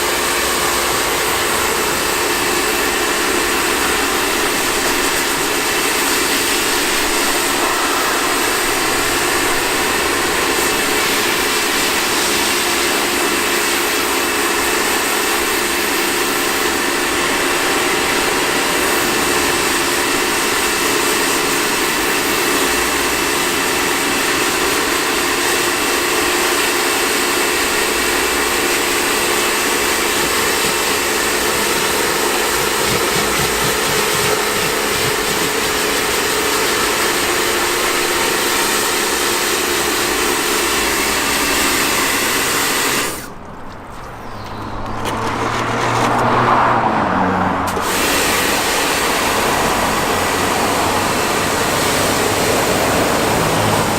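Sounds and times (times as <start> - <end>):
water spraying hiss: 0.0 - 43.3, 47.7 - 53.9
pressure washer motor whine: 0.0 - 43.8, 44.5 - 53.9.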